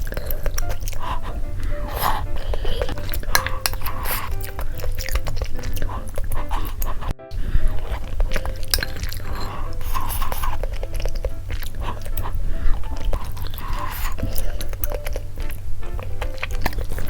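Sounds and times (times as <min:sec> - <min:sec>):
person chewing: 0:00.0 - 0:17.0
quiet background music: 0:00.0 - 0:17.0.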